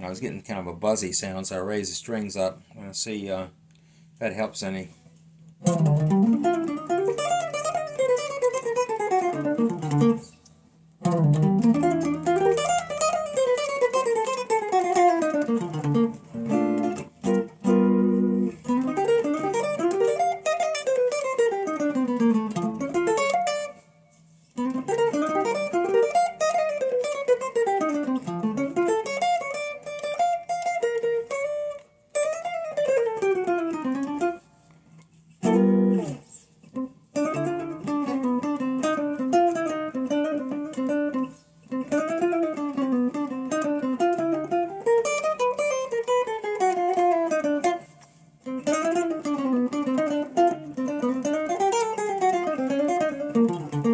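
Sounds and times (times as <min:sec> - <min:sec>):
electric guitar playing: 0:04.5 - 0:53.9.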